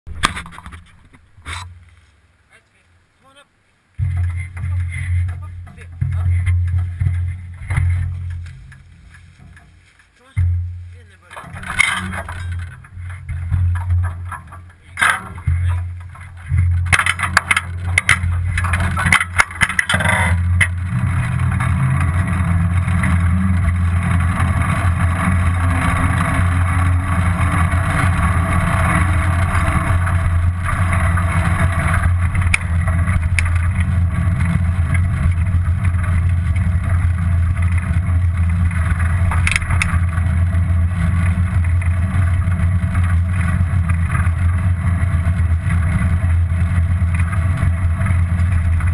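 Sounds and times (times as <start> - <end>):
wind and tyre rumble: 0.0 - 48.9
knocks and rattles: 4.0 - 48.9.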